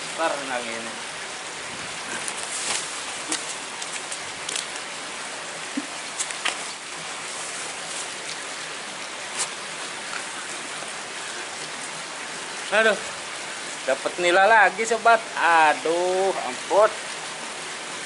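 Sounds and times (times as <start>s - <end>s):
water hissing: 0.0s - 18.0s.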